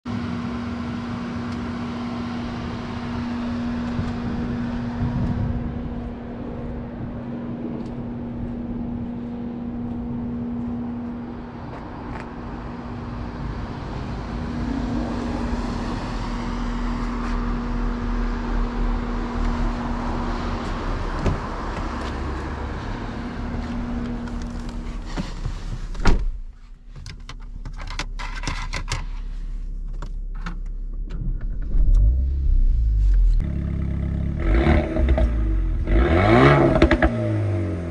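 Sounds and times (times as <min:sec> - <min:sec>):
car engine droning: 0:00.1 - 0:37.9
road rumble: 0:00.1 - 0:37.9.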